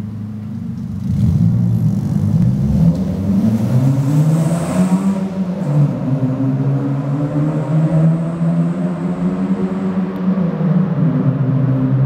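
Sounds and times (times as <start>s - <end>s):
car exhaust accelerating: 0.0s - 12.0s.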